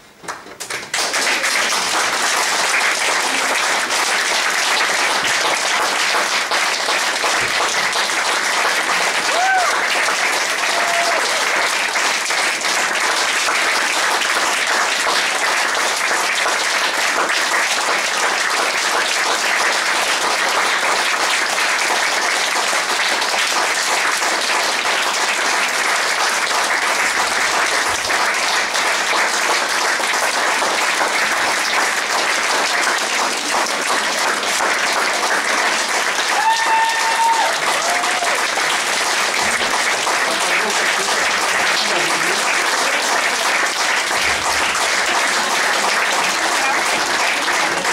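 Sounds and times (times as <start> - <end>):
audience applauding: 0.0 - 47.9.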